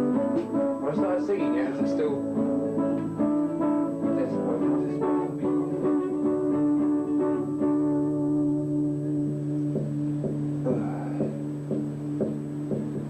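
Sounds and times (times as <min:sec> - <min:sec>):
plucked and strummed guitar: 0:00.0 - 0:13.0
steady held bass: 0:00.0 - 0:13.0.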